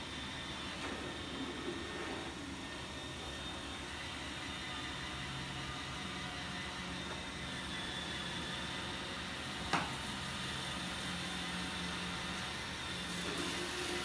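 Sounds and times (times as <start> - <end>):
electric fans whirring: 0.0 - 14.0
robot vacuum running: 0.0 - 14.0.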